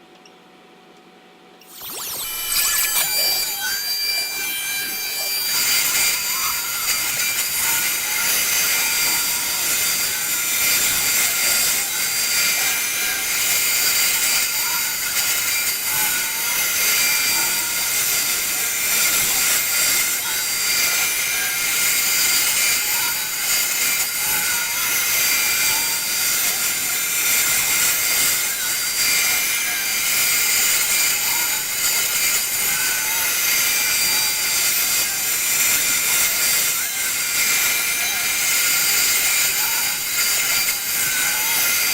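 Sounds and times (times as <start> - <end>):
router spindle whining: 1.6 - 41.9.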